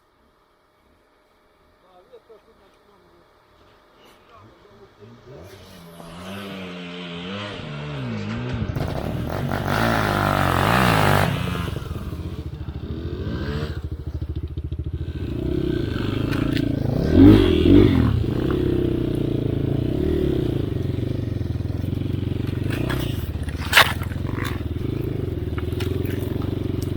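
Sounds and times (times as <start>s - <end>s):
dirt bike engine revving: 5.2s - 26.9s.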